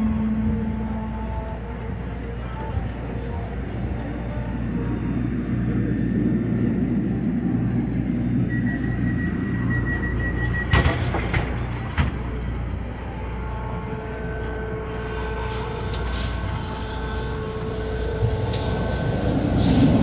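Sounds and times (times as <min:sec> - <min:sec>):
high steady whine: 0:00.0 - 0:20.0
trolley wheels and motors rumbling: 0:00.0 - 0:20.0.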